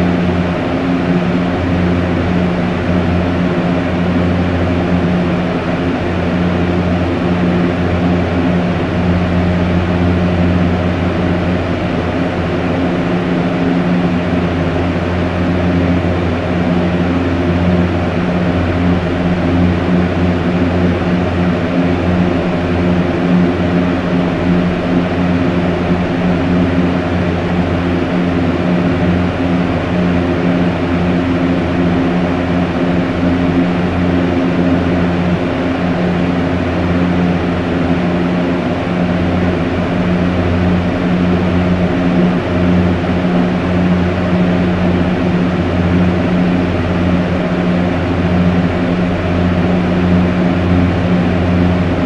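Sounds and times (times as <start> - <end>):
electric fan whirring: 0.0 - 52.0
low motor hum: 0.0 - 52.0.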